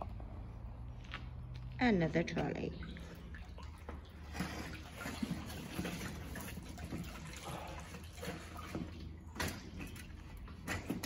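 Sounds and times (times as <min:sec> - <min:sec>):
water splashing and trickling: 0:00.1 - 0:11.0.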